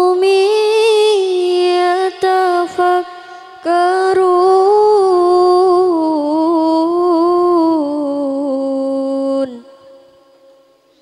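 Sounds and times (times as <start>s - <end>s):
person reciting melodically: 0.0s - 10.1s.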